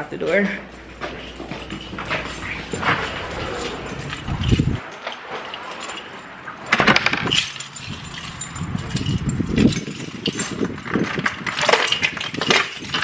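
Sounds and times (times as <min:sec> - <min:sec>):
keys jangling: 0:00.2 - 0:13.0
sharp clicks and rattles: 0:00.7 - 0:13.0.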